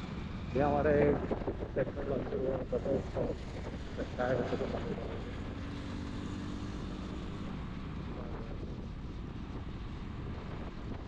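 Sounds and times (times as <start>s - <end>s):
low engine hum: 0.0s - 11.0s
traffic road noise: 0.0s - 11.0s.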